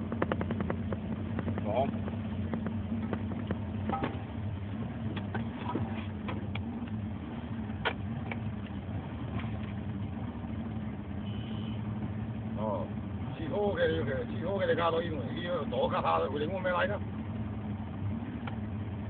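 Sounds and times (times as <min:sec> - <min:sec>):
outboard motor humming: 0:00.0 - 0:19.0.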